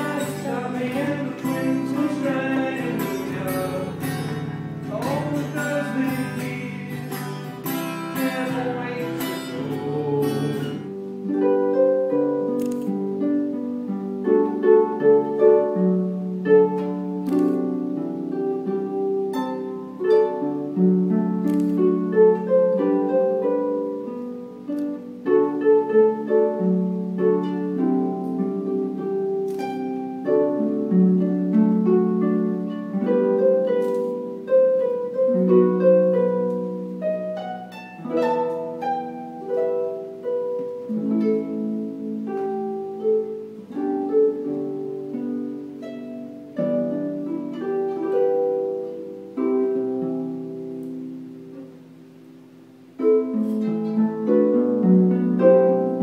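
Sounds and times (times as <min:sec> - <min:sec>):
harp playing solo: 0:00.0 - 0:56.0.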